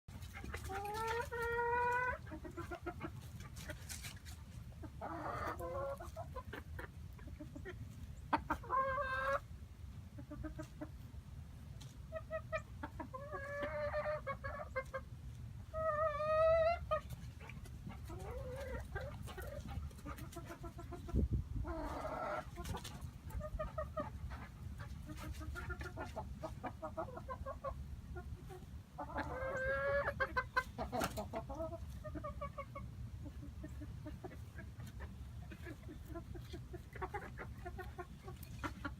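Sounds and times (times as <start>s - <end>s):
hens clucking and calling: 0.1s - 38.9s.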